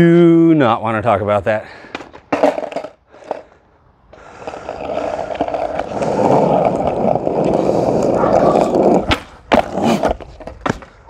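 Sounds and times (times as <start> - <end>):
skateboard wheels rolling on asphalt: 1.9 - 11.0.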